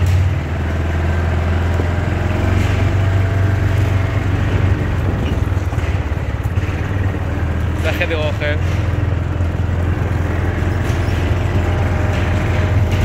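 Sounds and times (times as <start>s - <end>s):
tyres rumbling over gravel: 0.0s - 13.0s
vehicle motor hum: 0.0s - 13.0s.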